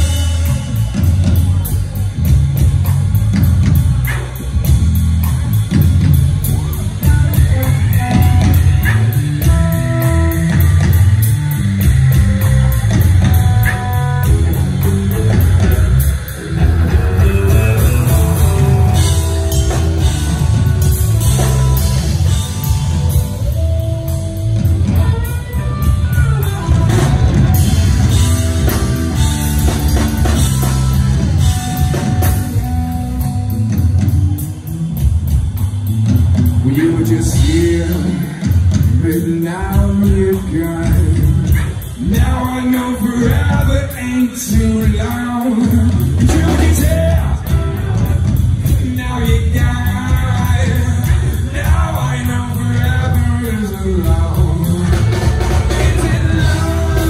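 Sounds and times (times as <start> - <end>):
drum kit and bass: 0.0 - 57.0
electric guitar lead bending notes: 0.0 - 57.0.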